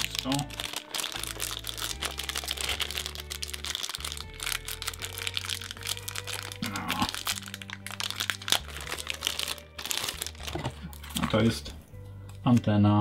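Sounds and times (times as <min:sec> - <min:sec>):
plastic bag crinkling: 0:00.0 - 0:11.6
background music with low notes: 0:00.0 - 0:13.0.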